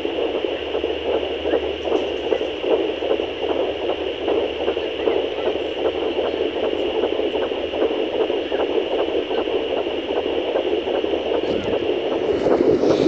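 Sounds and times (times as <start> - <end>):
fetal heartbeat pulses: 0.0 - 13.0.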